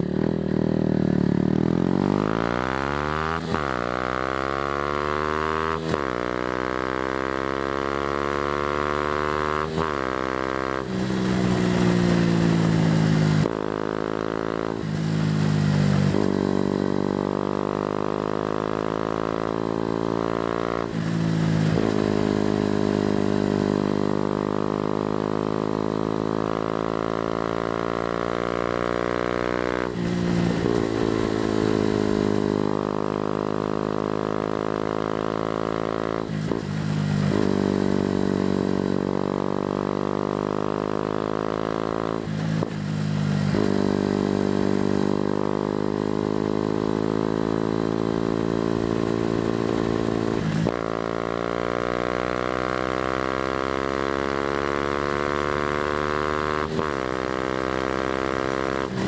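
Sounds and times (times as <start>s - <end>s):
motorcycle engine shifting gears: 0.0s - 59.0s.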